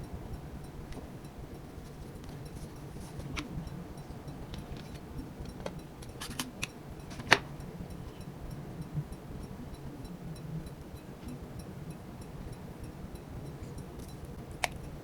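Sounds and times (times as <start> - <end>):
faint fast ticking: 0.0 - 15.0
steady low hum: 0.0 - 15.0.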